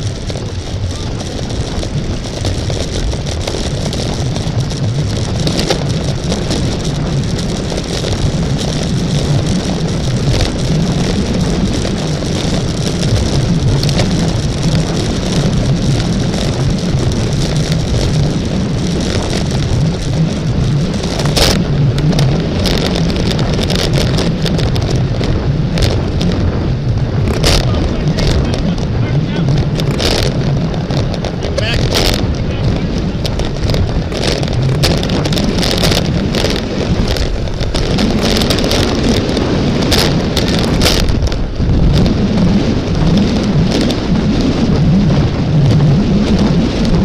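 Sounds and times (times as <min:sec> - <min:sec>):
bicycle road noise: 0:00.0 - 0:47.0
wind rush: 0:00.0 - 0:47.0.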